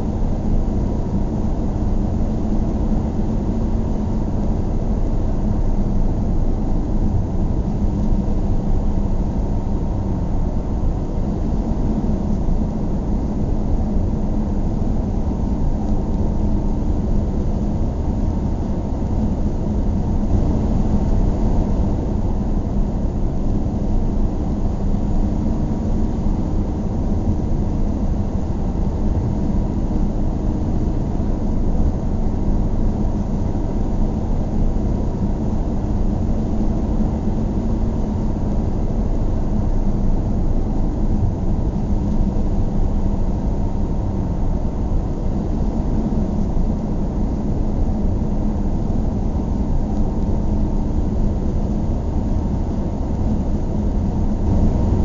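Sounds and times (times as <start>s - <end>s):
faint steady hum: 0.0s - 55.0s
car engine and tyre rumble: 0.3s - 55.0s.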